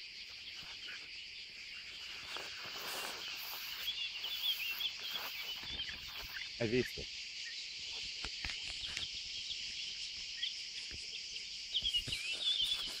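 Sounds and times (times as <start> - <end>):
bird chirps: 0.0 - 13.0
insects chorus: 0.0 - 13.0.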